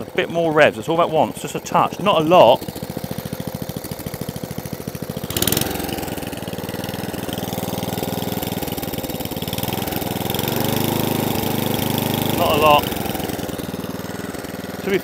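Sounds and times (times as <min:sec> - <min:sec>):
lawn mower engine idling: 0:00.0 - 0:15.0.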